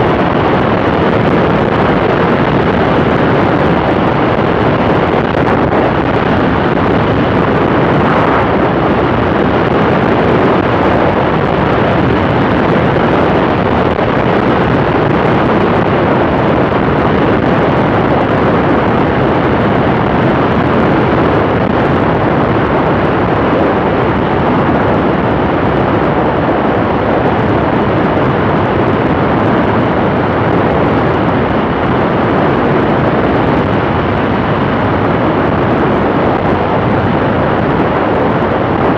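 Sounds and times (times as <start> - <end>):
propeller plane engine: 0.0 - 38.9
wind on microphone: 0.0 - 38.9.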